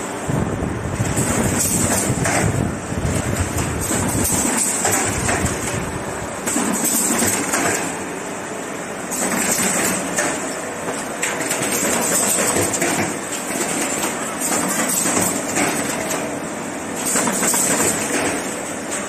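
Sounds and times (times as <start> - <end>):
machine clattering: 0.9 - 8.1, 9.1 - 19.0.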